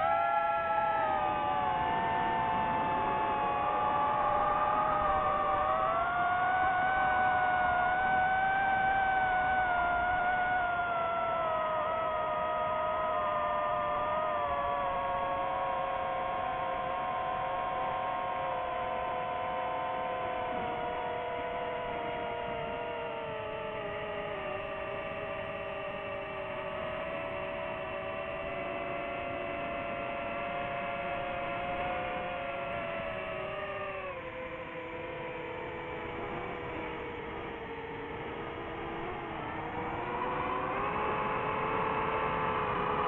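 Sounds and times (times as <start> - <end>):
droning synth tones: 0.0 - 43.0.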